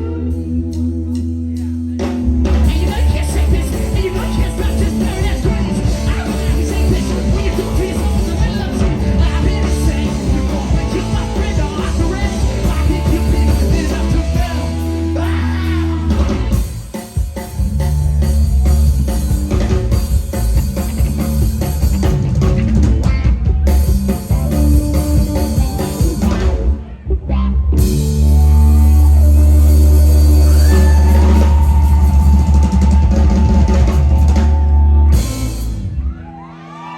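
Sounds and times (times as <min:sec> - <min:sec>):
drum kit: 0:00.0 - 0:26.8, 0:27.8 - 0:36.2
bass guitar: 0:00.0 - 0:36.9
electric guitar: 0:00.0 - 0:36.9.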